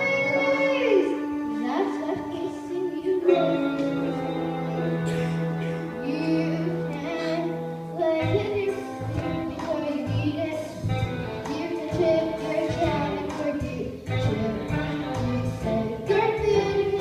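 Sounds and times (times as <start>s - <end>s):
instrumental accompaniment: 0.0s - 17.0s
young voices singing: 0.0s - 17.0s.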